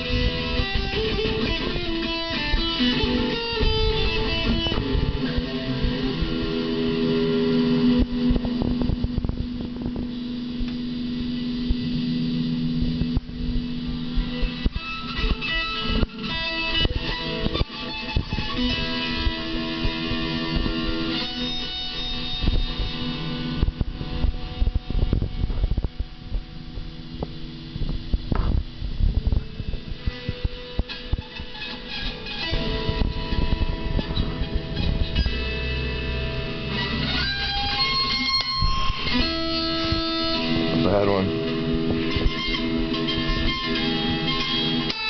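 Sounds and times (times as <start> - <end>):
guitar strings twanging: 0.0 - 45.0.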